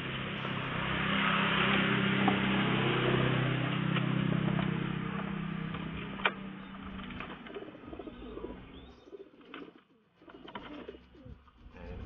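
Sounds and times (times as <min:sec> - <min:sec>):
vehicle engine running: 0:00.0 - 0:09.0, 0:10.8 - 0:12.0.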